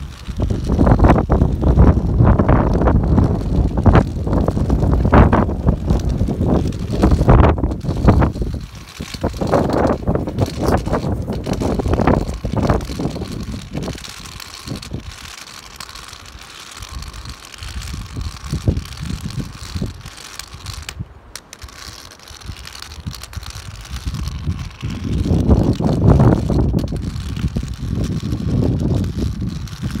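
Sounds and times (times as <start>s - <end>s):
rain hiss: 0.0s - 30.0s.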